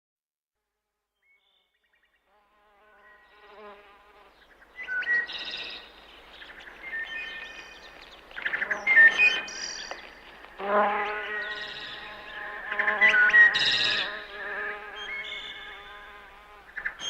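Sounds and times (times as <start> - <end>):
birds chirping: 1.8 - 17.0
insect buzz: 2.2 - 17.0.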